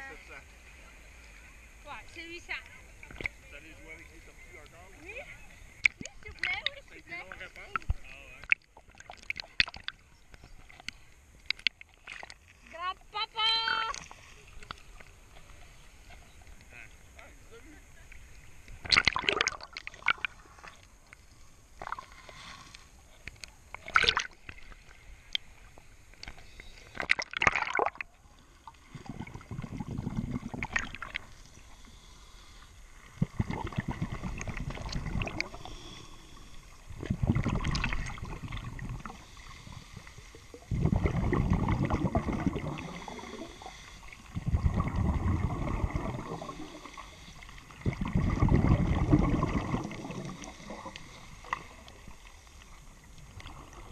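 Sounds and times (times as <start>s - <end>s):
underwater bubbling: 0.6s - 53.9s.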